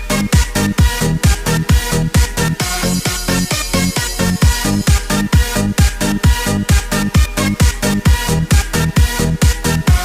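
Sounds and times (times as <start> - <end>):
bass line: 0.0 - 10.0
electronic dance music: 0.0 - 10.0
kick drum: 0.0 - 10.0.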